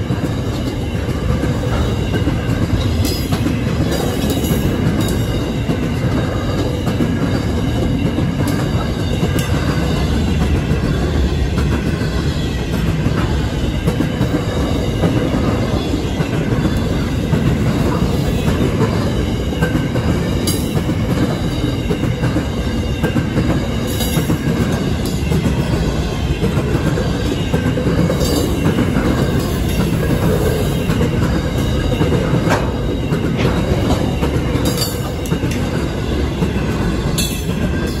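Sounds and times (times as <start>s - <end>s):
train wheels rumbling on rails: 0.0s - 38.0s
wheels clacking over rail joint: 0.1s - 38.0s.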